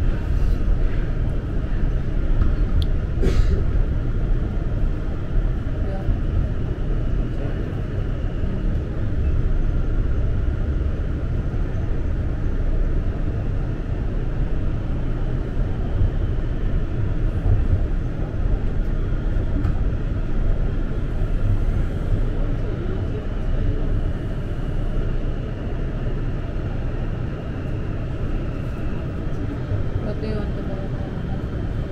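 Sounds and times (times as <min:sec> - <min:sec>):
train wheels rumbling on rails: 0:00.0 - 0:31.9
faint steady whine: 0:03.8 - 0:31.9.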